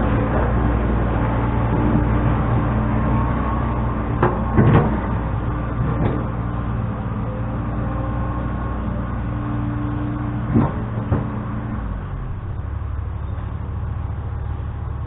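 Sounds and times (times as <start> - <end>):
earth-moving machine engine running: 0.0 - 15.0.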